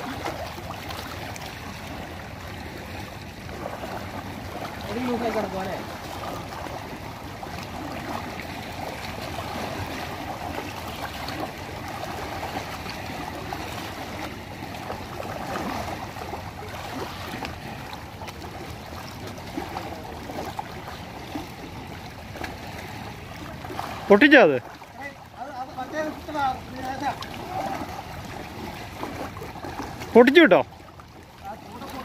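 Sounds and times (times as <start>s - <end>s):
water lapping among rocks: 0.0s - 32.0s.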